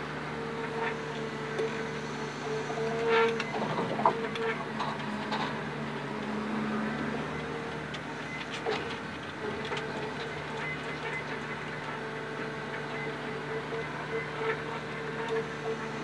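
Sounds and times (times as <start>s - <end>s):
diesel engine and hydraulics humming: 0.0s - 16.0s.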